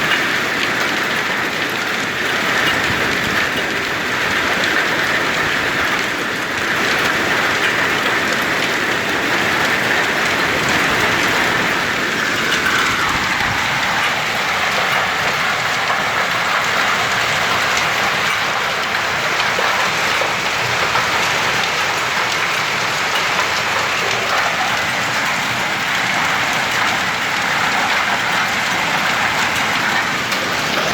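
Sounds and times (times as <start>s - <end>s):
heavy rain on hard surfaces: 0.0s - 30.9s.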